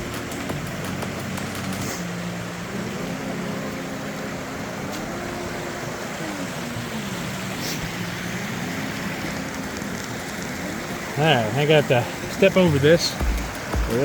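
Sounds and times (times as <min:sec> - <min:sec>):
river and waterfall rushing: 0:00.0 - 0:14.0
soft sustained music: 0:00.0 - 0:14.0.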